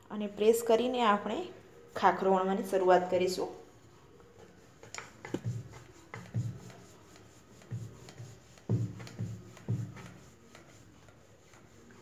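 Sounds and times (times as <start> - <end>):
rolling pin rubbing dough: 0.7 - 12.0.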